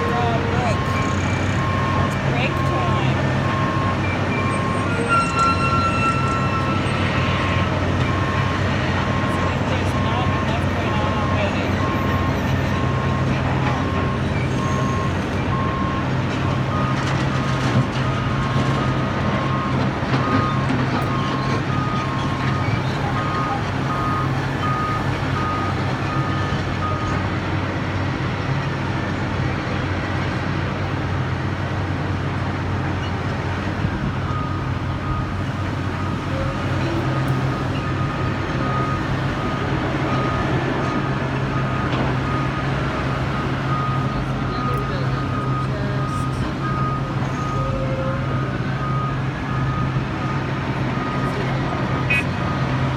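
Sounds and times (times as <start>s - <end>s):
heavy diesel engine running: 0.0s - 52.9s
truck backup alarm beeping: 0.0s - 52.9s.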